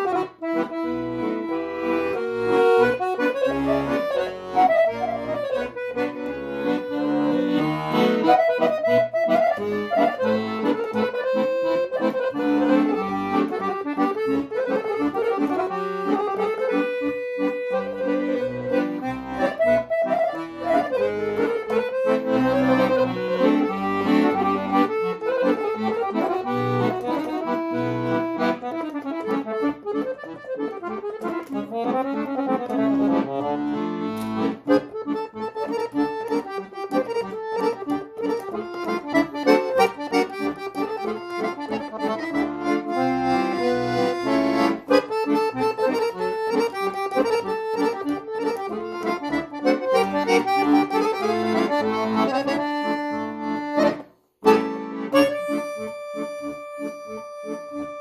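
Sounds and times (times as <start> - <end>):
accordion playing a quick melody: 0.0 - 58.0.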